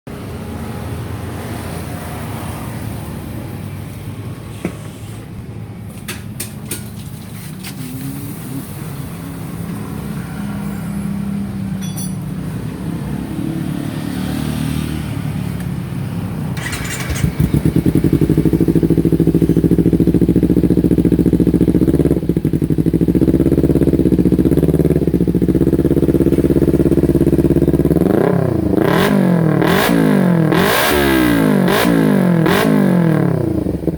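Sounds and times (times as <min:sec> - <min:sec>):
motorcycle engine idling and revving: 0:00.1 - 0:33.9.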